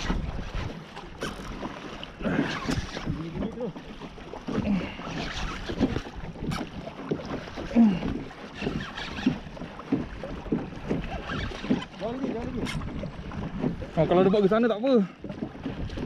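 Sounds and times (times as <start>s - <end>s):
wind buffeting microphone: 0.0s - 1.4s, 2.2s - 16.0s
knocks and splashes: 0.0s - 16.0s
water slapping against kayak hull: 0.0s - 16.0s.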